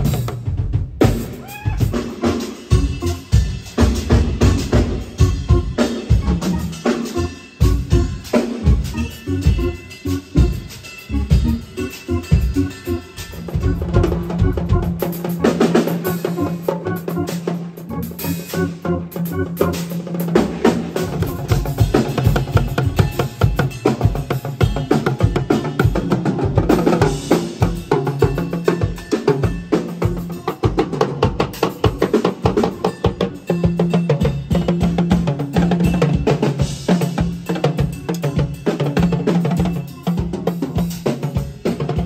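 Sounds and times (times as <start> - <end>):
drum kit playing a groove: 0.0 - 42.0.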